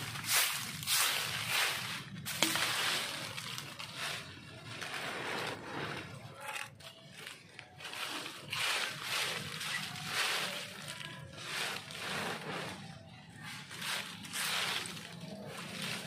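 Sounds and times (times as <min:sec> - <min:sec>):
dry leaves crunching under a broom: 0:00.0 - 0:16.0
plastic bag rustling: 0:00.0 - 0:16.0.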